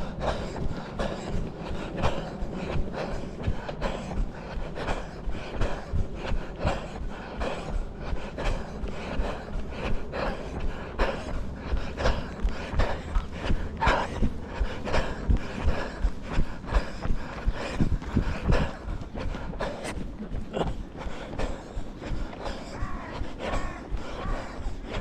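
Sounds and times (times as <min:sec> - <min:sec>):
heavy rhythmic breathing: 0:00.0 - 0:25.0
jogging footfalls: 0:00.0 - 0:25.0
low microphone rumble: 0:00.0 - 0:25.0.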